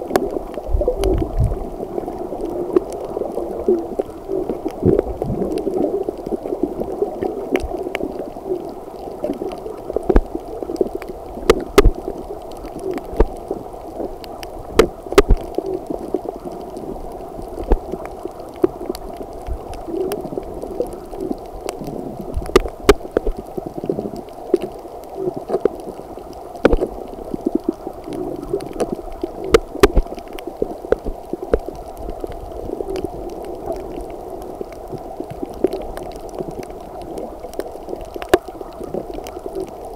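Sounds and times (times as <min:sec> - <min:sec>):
muffled underwater gurgling: 0:00.0 - 0:39.9
sharp underwater clicks: 0:00.0 - 0:39.9.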